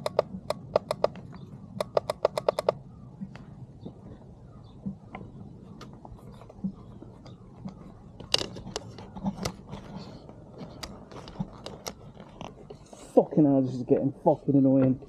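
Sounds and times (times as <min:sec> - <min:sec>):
sharp clicks and crunching knocks: 0:00.0 - 0:13.2.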